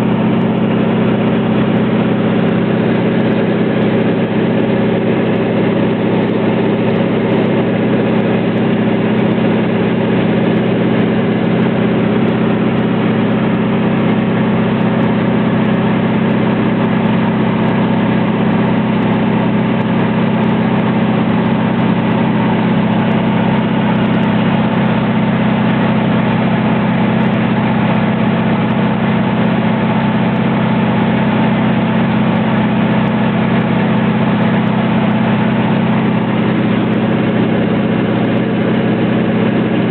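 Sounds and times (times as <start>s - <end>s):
light aircraft engine drone: 0.0s - 30.7s, 31.4s - 39.9s.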